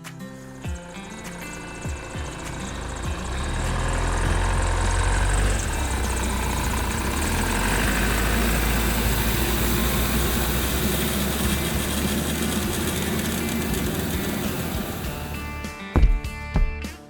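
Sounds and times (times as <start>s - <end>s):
farm vehicle engine humming: 0.0s - 15.7s.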